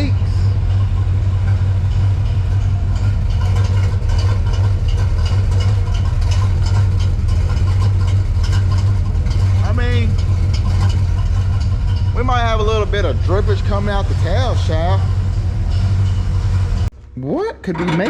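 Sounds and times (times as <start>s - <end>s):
truck engine idling: 0.0s - 17.1s.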